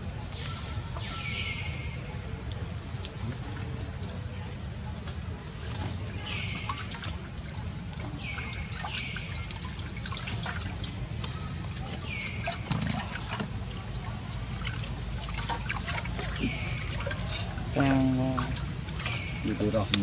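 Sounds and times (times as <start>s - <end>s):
monkeys slurping water: 0.0s - 20.0s.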